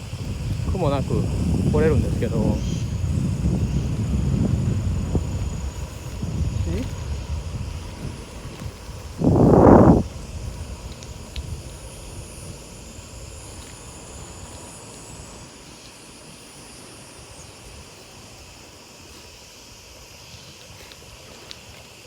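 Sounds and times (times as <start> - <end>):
wind noise on microphone: 0.0 - 18.6.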